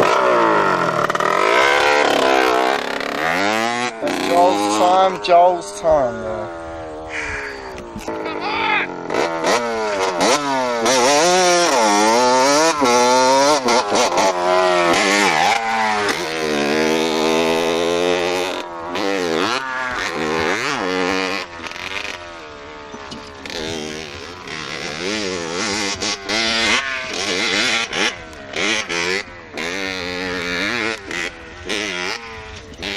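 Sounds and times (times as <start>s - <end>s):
motorbike engine revving: 0.0s - 32.9s.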